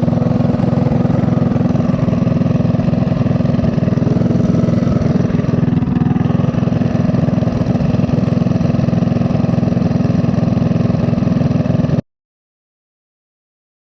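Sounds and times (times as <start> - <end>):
minibike engine running: 0.0 - 12.0.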